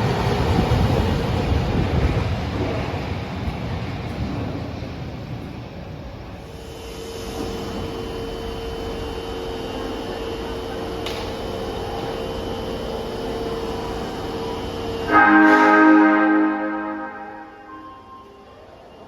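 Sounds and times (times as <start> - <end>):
subway train equipment hum: 0.0 - 19.0.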